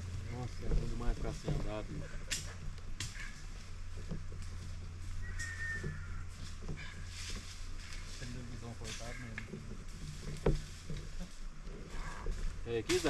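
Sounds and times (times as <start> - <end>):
low hum: 0.0 - 13.0
sharp rustles: 0.5 - 13.0.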